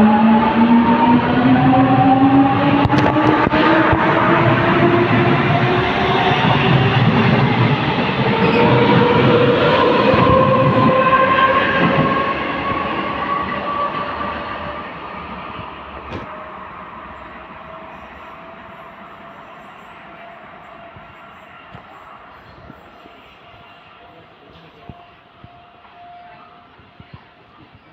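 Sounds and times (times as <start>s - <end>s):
wheels rumbling on rail: 0.0s - 27.9s.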